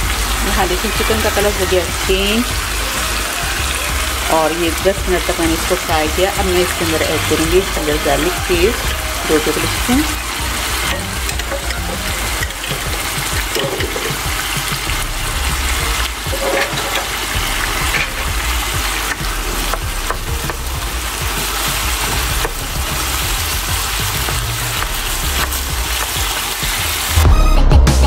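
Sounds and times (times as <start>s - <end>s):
chicken sizzling in hot oil: 0.0s - 27.2s.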